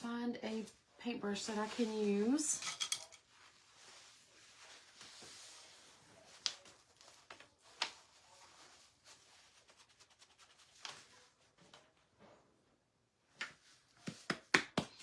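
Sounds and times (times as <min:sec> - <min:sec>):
soft rustling: 0:00.0 - 0:12.6.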